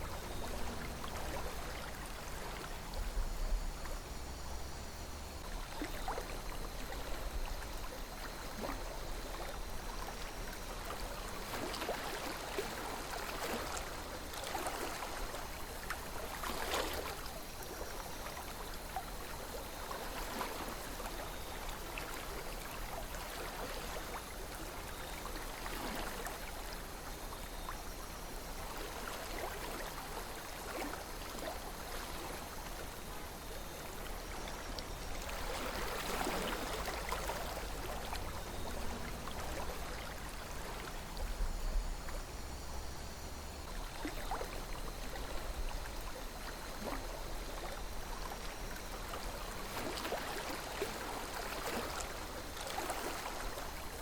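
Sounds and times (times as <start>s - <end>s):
river water gurgling: 0.0s - 54.0s.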